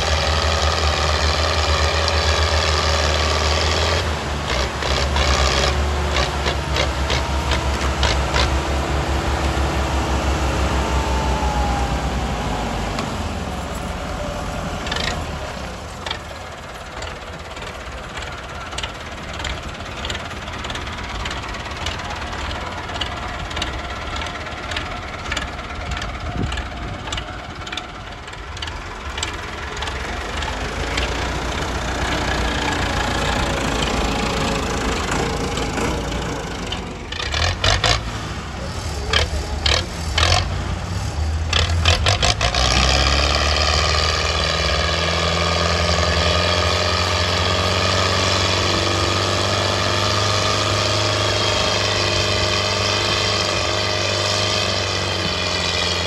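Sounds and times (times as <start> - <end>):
tractor diesel engines under load: 0.0 - 56.0.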